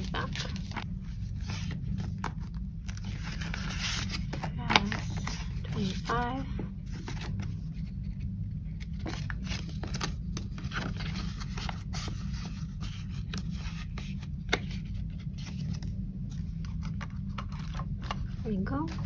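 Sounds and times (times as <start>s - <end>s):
plastic envelopes crinkling: 0.0s - 7.6s, 8.8s - 19.0s.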